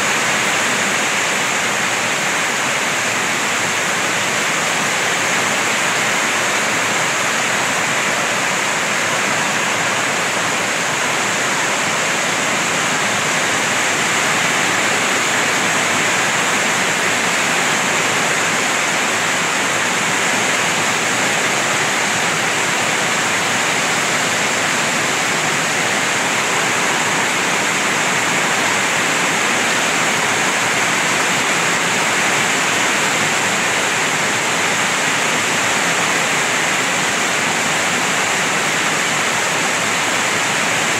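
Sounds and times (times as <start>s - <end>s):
heavy rain downpour: 0.0s - 40.9s
runoff pouring off metal roof: 0.0s - 40.9s.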